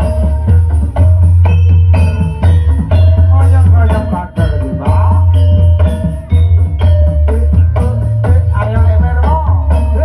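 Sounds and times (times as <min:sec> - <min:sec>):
melodic line: 0:00.0 - 0:10.0
sharp percussion strikes: 0:00.0 - 0:10.0.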